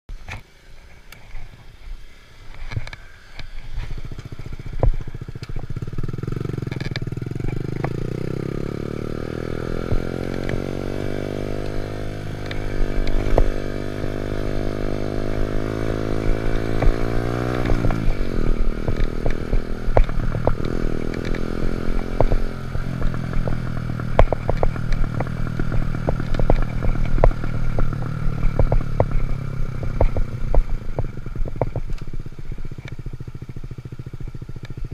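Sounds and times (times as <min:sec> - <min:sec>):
minibike engine running: 0:02.5 - 0:34.9.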